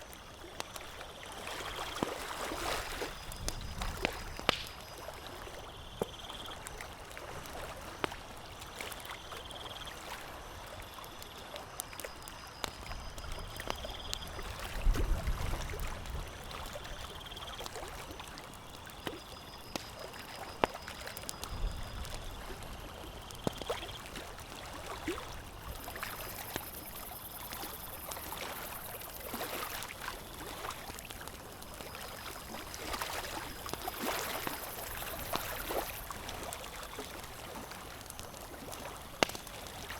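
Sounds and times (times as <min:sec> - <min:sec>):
campfire crackling and popping: 0:00.0 - 0:39.9
water lapping: 0:00.1 - 0:11.6, 0:14.3 - 0:39.9.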